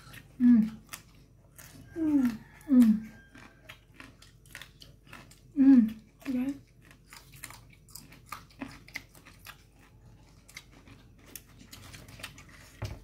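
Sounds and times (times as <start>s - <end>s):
crunchy chewing of raw vegetables: 0.0s - 13.0s.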